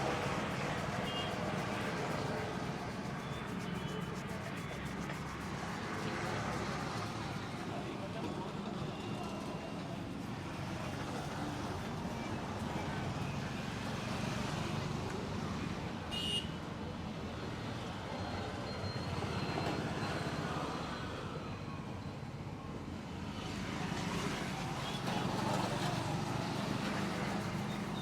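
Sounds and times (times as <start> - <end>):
roadside traffic: 0.0 - 28.0.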